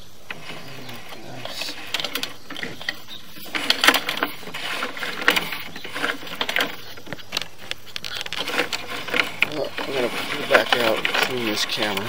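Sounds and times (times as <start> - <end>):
cable and reel clattering: 0.0 - 12.0.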